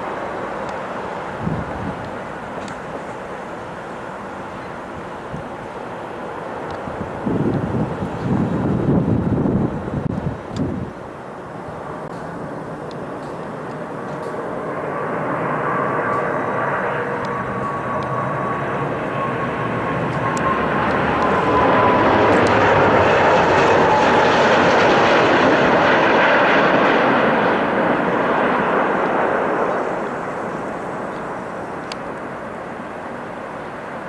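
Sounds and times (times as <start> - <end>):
high engine whine: 0.0 - 34.0
jet engine roar: 0.0 - 34.0.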